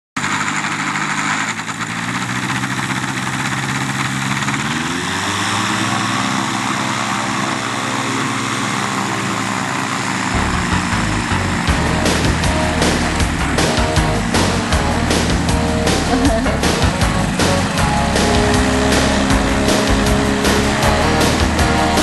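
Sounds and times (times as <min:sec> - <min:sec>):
microlight engine and propeller: 0:00.2 - 0:22.0.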